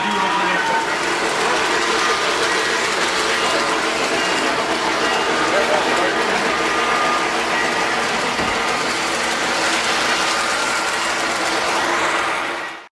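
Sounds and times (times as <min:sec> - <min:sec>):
model train running on track: 0:00.0 - 0:12.9.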